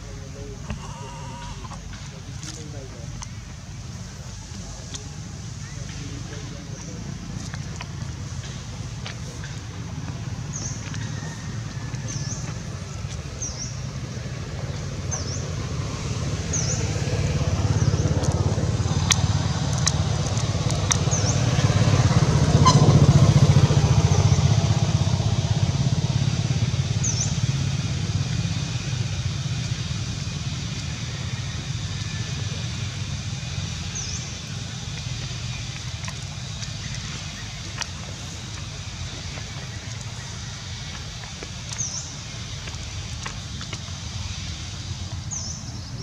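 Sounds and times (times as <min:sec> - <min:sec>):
motorcycle engine drone: 0:00.0 - 0:46.0.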